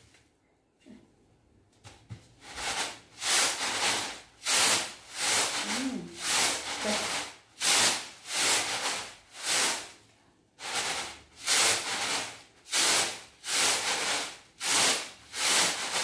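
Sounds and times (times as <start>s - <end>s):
rice grains hissing across a tray: 2.5s - 10.0s, 10.6s - 16.0s.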